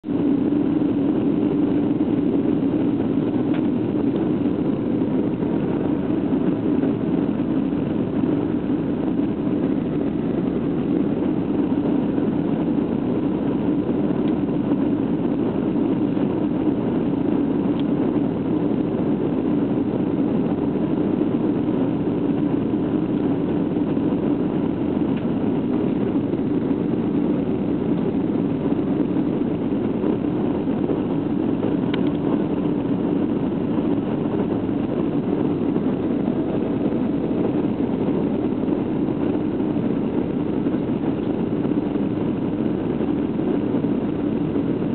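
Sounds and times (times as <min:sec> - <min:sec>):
faint steady whine: 0:00.0 - 0:44.9
jet cabin engine roar: 0:00.0 - 0:44.9.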